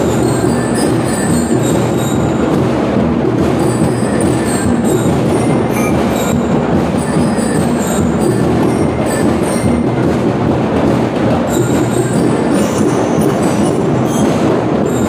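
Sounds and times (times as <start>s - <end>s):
drum and lyre corps playing: 0.0s - 15.0s.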